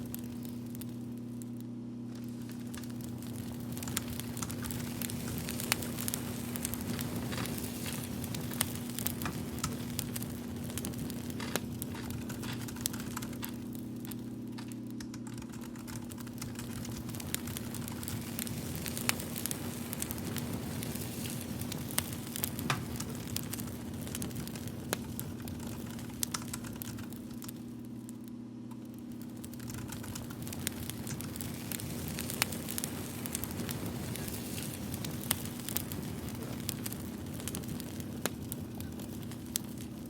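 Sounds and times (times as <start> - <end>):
fire crackling: 0.0 - 40.0
steady low hum: 0.0 - 40.0.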